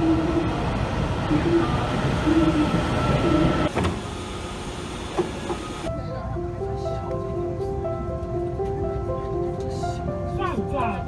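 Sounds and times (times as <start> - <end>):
electric train rumbling: 0.0 - 10.3.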